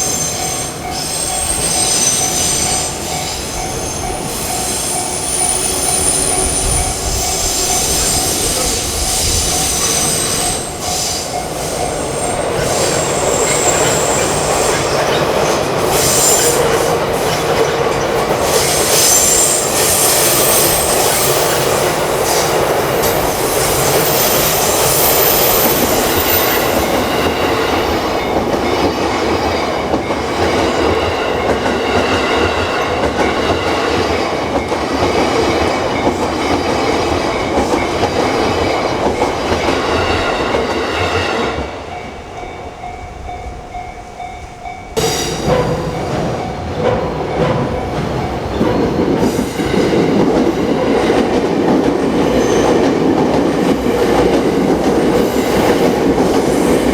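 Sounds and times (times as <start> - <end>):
train wheels rushing on rails: 0.0 - 56.9.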